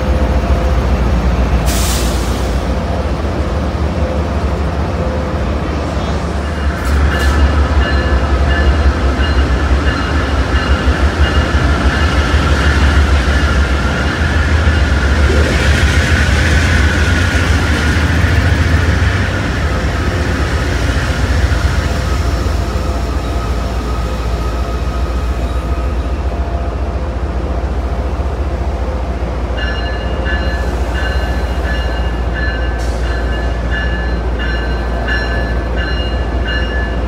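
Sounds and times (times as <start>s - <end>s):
diesel locomotives rumbling past: 0.0s - 37.0s.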